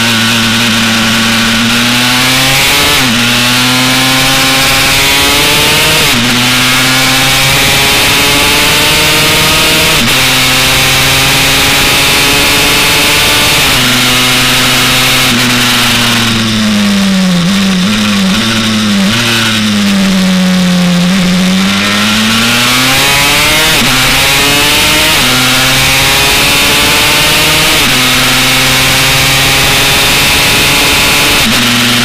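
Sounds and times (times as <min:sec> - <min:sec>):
two-stroke motorbike engine: 0:00.0 - 0:32.0.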